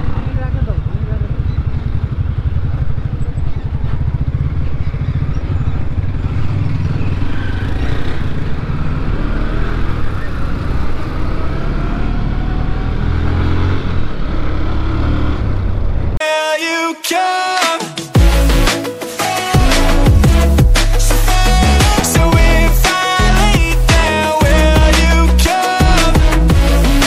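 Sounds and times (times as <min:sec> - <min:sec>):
motorcycle engine accelerating: 0:00.0 - 0:16.2, 0:19.6 - 0:27.0.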